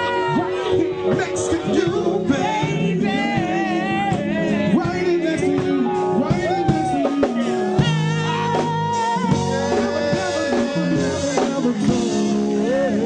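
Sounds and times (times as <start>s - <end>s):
loud music with singing: 0.0s - 13.0s.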